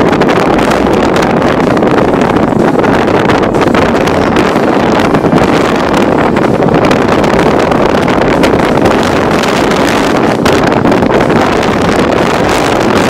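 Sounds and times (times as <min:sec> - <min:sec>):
wind blowing across microphone: 0:00.0 - 0:13.0.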